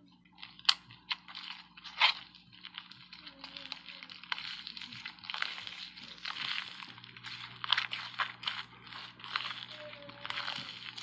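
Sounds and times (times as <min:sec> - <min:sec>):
hands squishing slime: 0:00.4 - 0:11.0.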